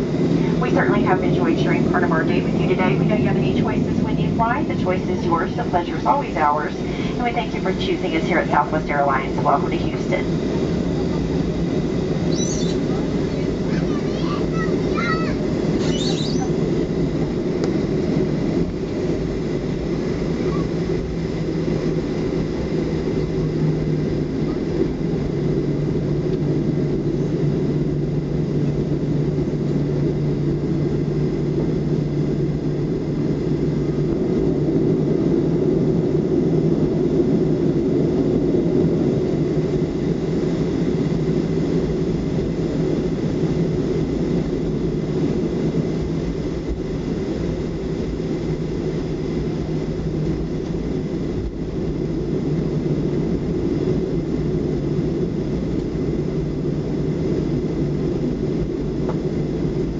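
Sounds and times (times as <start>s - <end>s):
faint steady whine: 0.0s - 59.9s
jet engine and airframe rumble: 0.0s - 59.9s.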